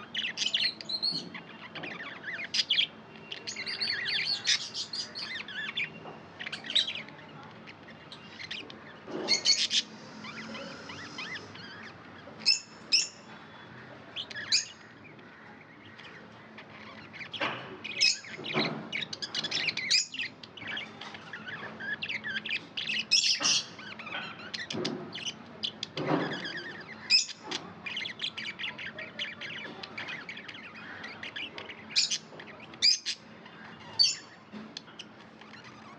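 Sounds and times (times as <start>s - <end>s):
budgies chirping: 0.0s - 35.9s.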